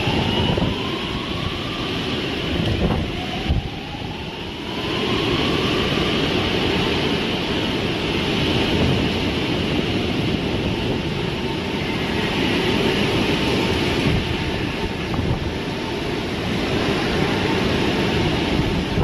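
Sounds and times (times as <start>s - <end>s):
driving rain: 0.0s - 19.0s
floodwater rushing: 0.0s - 19.0s
wind buffeting microphone: 0.0s - 19.0s.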